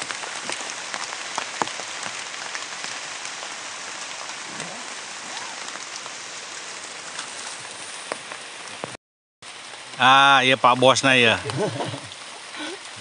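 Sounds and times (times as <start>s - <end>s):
drizzle falling on leaves: 0.0s - 13.0s.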